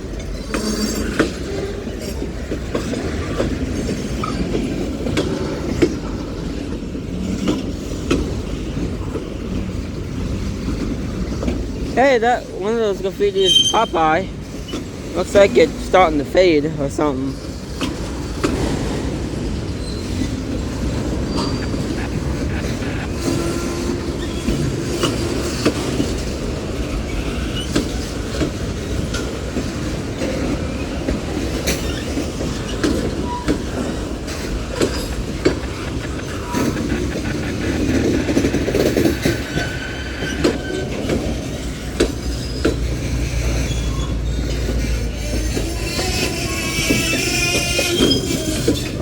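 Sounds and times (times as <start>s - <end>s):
train wheels rumbling on rail: 0.0s - 49.0s
wheel squeals: 0.2s - 6.6s, 10.7s - 16.0s, 17.3s - 49.0s.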